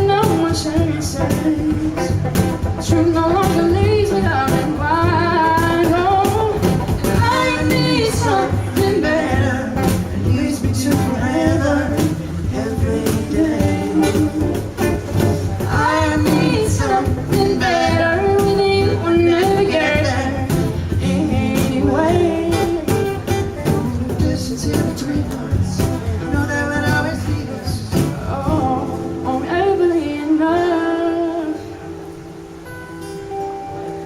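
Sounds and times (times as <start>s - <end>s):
cajon beat: 0.0s - 30.8s
person singing: 0.0s - 32.0s
acoustic accompaniment: 0.0s - 34.0s.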